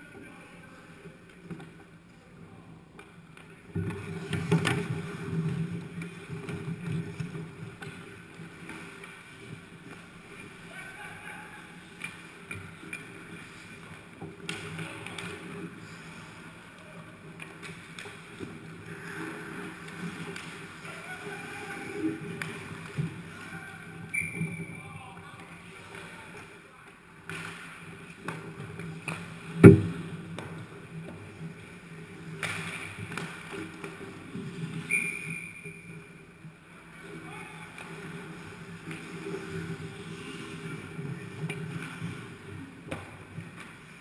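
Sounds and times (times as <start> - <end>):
low hum of rink: 0.0 - 44.0
sticks and puck clacking: 0.0 - 44.0
skates scraping ice: 0.1 - 44.0.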